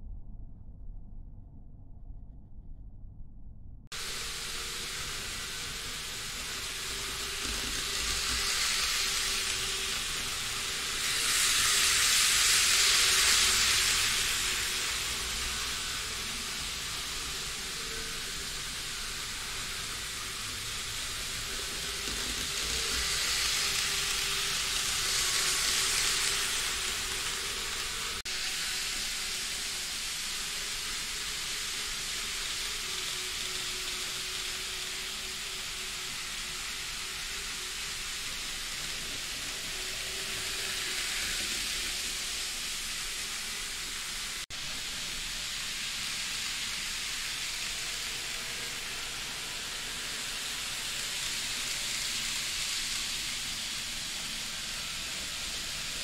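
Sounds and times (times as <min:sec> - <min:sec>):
model trains running on track: 0:03.9 - 0:56.0.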